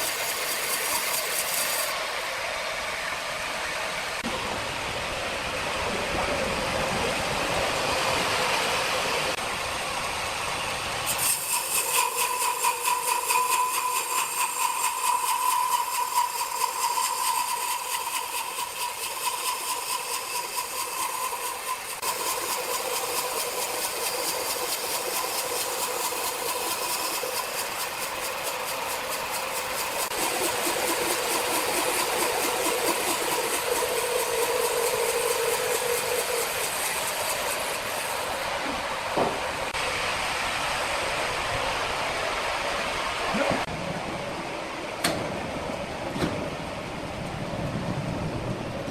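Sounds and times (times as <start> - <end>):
sawmill machinery whine and hum: 0.0 - 48.9.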